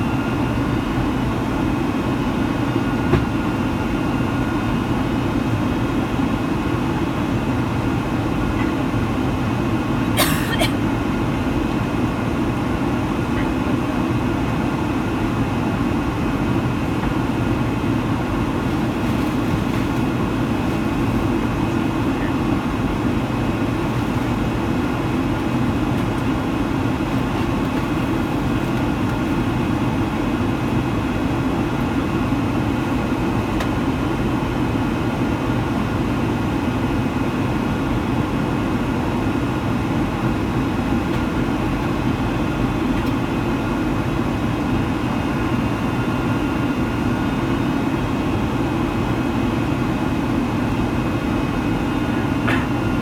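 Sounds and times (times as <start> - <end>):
airplane cabin engine rush: 0.0 - 53.0.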